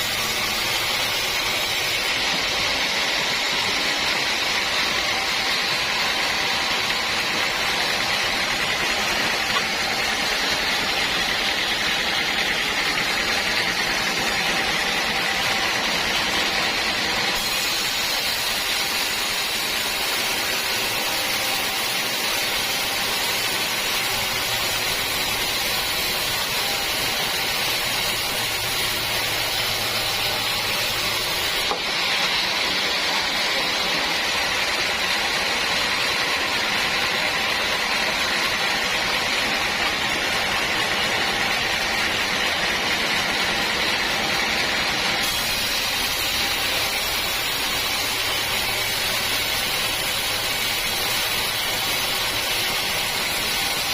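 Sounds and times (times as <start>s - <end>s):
sawmill saw cutting wood: 0.0s - 53.9s.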